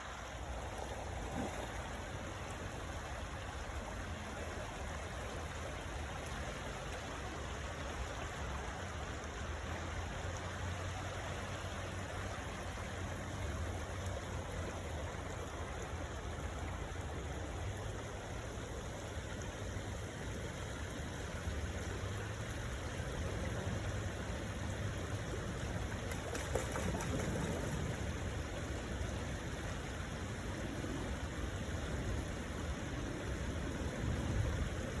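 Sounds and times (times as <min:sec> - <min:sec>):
stream water trickling: 0:00.0 - 0:35.0.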